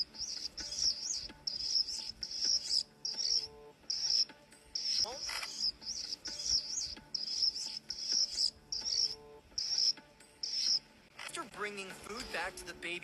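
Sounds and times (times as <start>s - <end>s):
cricket chirping: 0.0s - 10.8s.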